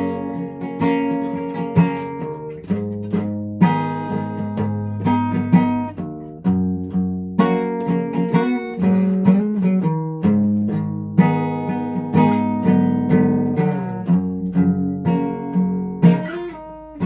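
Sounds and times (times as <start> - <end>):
guitar chords ringing: 0.0 - 17.0.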